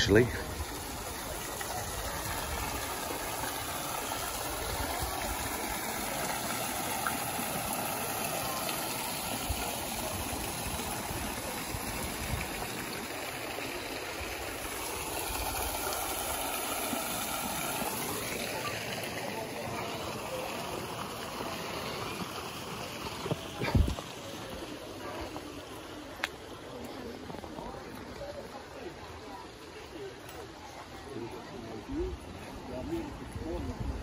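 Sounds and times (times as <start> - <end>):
pool waterfalls splashing: 0.0 - 31.8.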